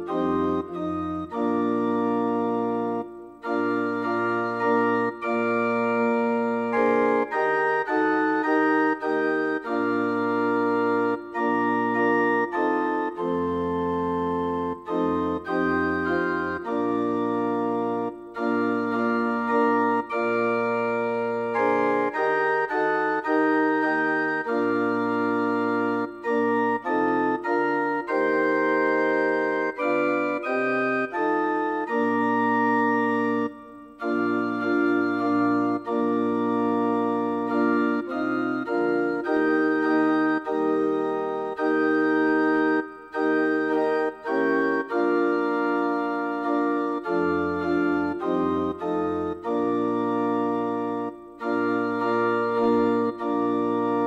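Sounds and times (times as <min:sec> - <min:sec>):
organ playing slow chords: 0:00.0 - 0:54.0.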